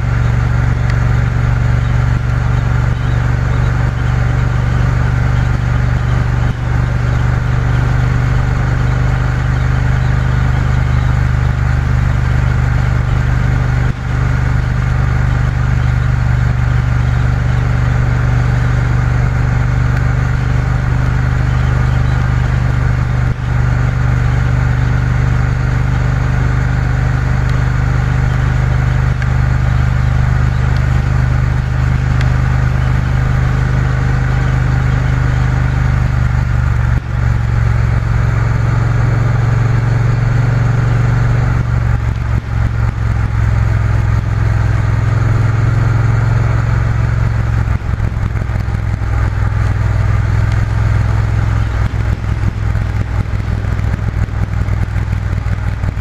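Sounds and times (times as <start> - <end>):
motorcycle engine running: 0.0 - 56.0
rush of noise: 0.0 - 56.0.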